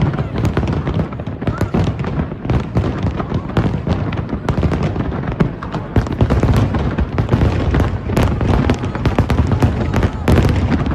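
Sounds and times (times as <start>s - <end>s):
fireworks bangs and crackles: 0.0s - 10.9s.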